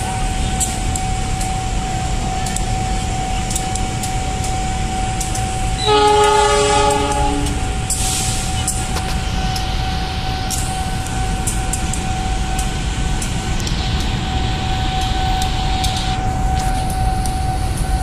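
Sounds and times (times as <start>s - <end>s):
diesel locomotive rumbling past: 0.0s - 18.0s
steady high tone: 1.2s - 18.0s.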